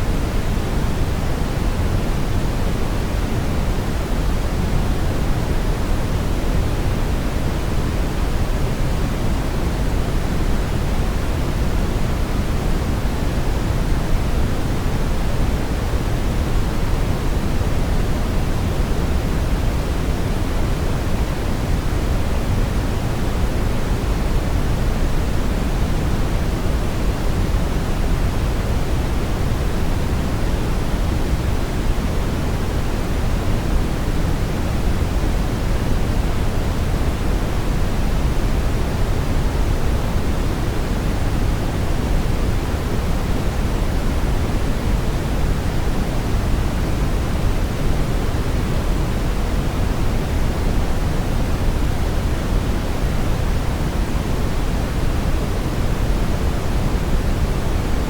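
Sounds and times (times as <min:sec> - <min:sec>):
brown noise hiss: 0:00.0 - 0:58.0.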